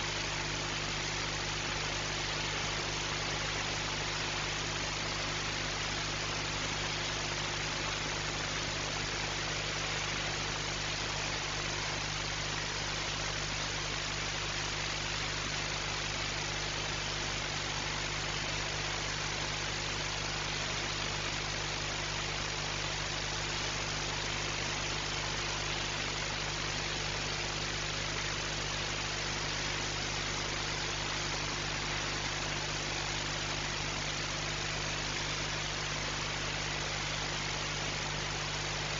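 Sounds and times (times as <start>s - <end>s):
steady hiss: 0.0s - 38.9s.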